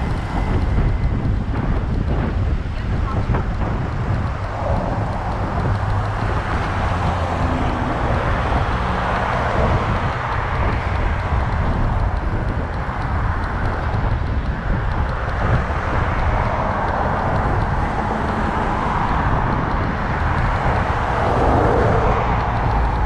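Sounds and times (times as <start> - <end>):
road traffic noise: 0.0 - 23.0
wind rumble on microphone: 0.0 - 23.0.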